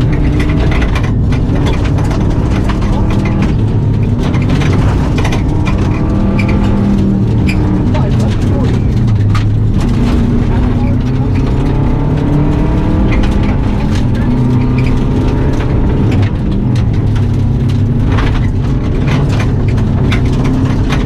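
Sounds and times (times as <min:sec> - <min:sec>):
gravel striking car underbody: 0:00.0 - 0:21.0
rally car engine revving: 0:00.0 - 0:21.0.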